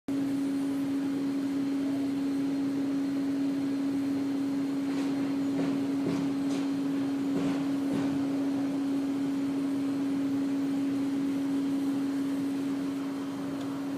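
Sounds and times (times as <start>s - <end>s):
steady hum: 0.1s - 13.9s.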